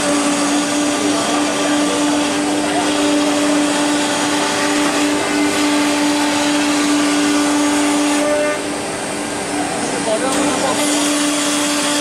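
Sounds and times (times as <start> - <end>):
router spindle cutting wood: 0.0 - 8.7, 10.3 - 12.0.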